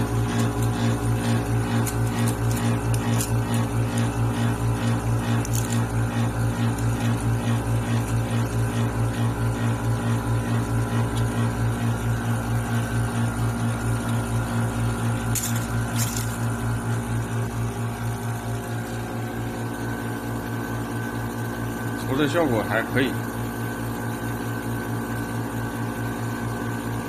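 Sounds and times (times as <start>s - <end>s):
film coater machine humming: 0.0s - 27.0s.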